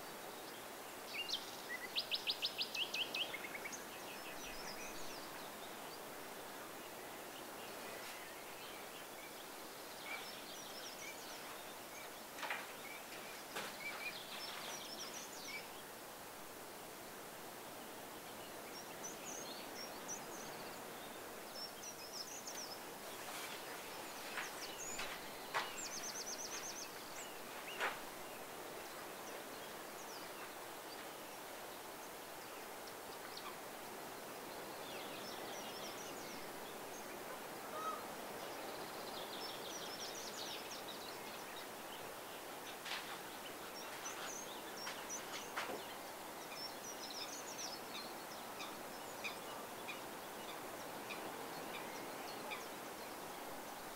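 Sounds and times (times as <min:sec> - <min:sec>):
outdoor background hiss: 0:00.0 - 0:53.9
small birds chirping: 0:00.0 - 0:53.9.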